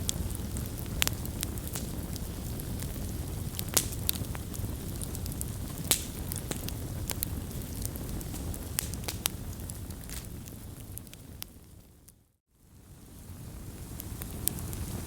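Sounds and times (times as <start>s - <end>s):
burning wood crackling and popping: 0.0s - 15.0s
campfire flames rumbling: 0.0s - 15.0s.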